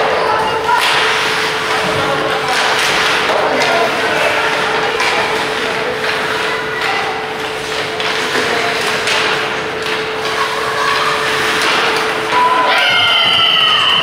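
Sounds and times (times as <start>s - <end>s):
steady hum: 0.0s - 14.0s
skates on ice: 0.1s - 14.0s
hockey sticks and puck knocking: 0.7s - 12.4s.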